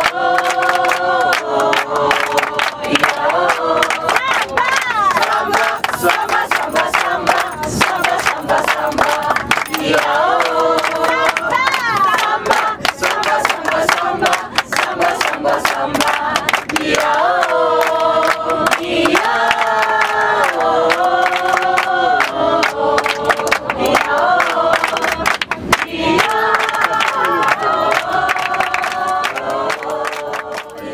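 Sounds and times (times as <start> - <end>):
group of people singing: 0.0 - 30.9
hands clapping: 0.0 - 30.9.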